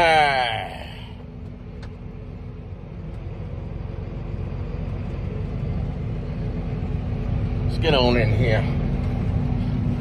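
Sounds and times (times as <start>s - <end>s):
tractor engine rumble from cab: 0.0s - 10.0s.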